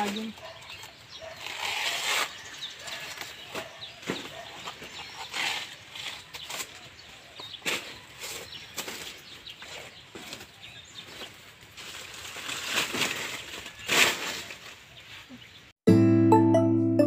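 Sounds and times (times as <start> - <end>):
dry leaves rustling and crackling: 0.0 - 15.2.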